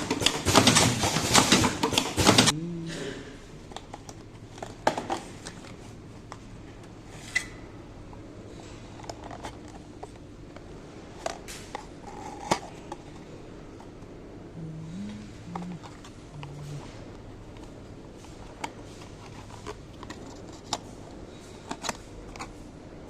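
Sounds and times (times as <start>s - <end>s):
faint steady hum: 2.1s - 23.0s.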